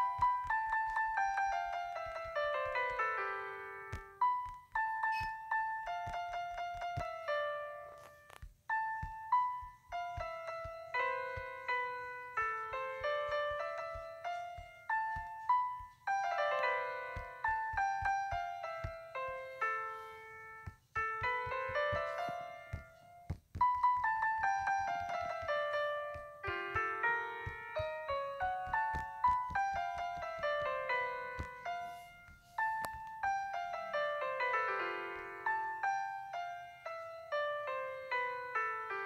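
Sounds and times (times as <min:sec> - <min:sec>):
piano music with quick runs: 0:00.0 - 0:39.0.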